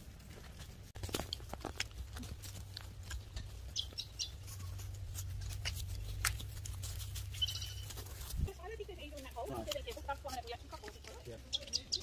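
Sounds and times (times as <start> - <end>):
hooves knocking: 0.0 - 12.0.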